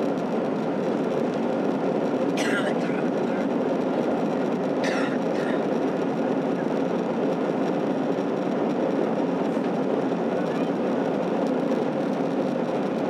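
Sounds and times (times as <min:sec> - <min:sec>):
airliner cabin engine hum: 0:00.0 - 0:13.0.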